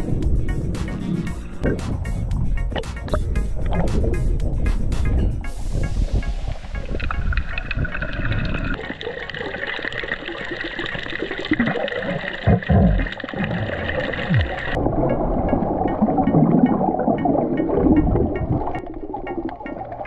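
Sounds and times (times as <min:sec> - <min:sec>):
low gurgling sweeps: 0:00.0 - 0:20.0
water rushing and bubbling underwater: 0:00.0 - 0:20.0.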